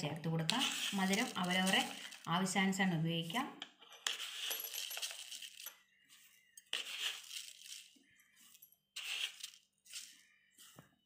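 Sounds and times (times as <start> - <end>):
plastic spoon scraping: 0.4 - 2.3, 3.8 - 10.9.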